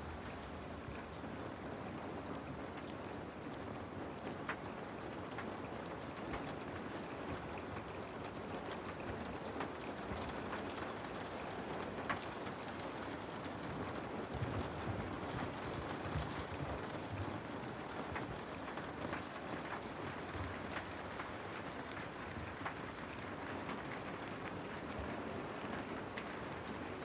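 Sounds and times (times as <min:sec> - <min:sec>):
rain on window pane: 0:00.0 - 0:27.0.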